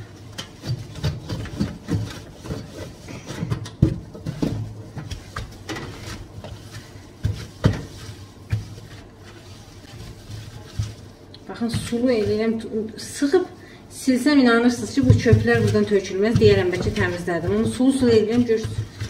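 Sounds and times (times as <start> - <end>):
wet cloth wiping oven: 0.0 - 19.0.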